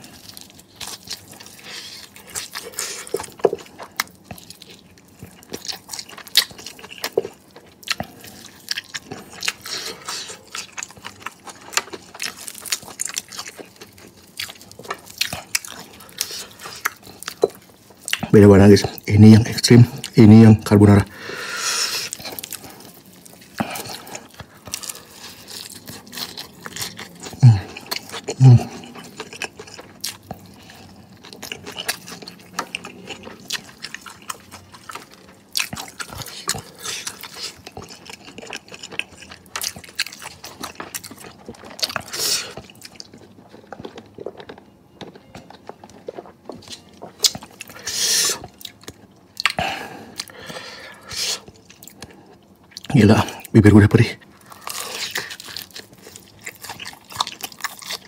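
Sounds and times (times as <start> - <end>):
crunchy chewing: 0.0 - 20.5, 21.3 - 58.0.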